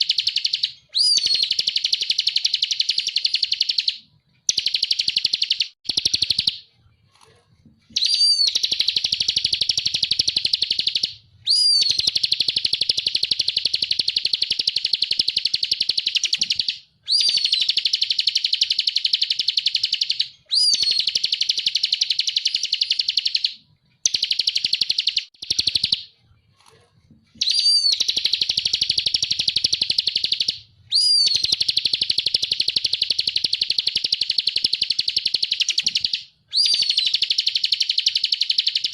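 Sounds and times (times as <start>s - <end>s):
bird buzzy trilling song: 0.0s - 6.7s, 7.9s - 26.1s, 27.4s - 38.9s.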